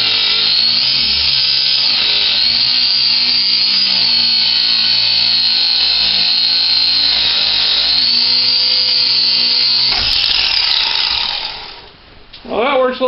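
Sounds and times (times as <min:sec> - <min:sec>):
angle grinder cutting metal: 0:00.0 - 0:11.9.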